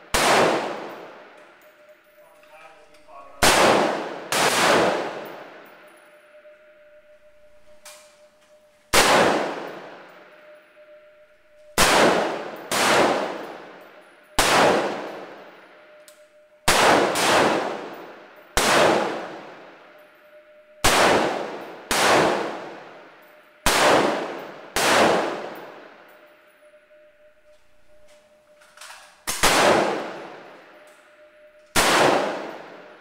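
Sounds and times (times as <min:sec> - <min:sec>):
rifle shots indoors: 0:00.0 - 0:33.0.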